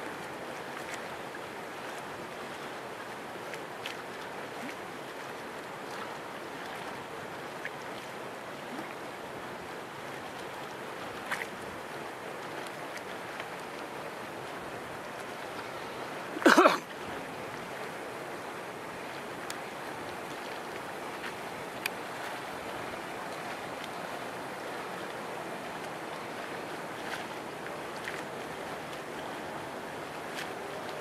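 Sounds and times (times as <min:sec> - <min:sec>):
small waves: 0:00.0 - 0:31.0
wind: 0:00.0 - 0:31.0.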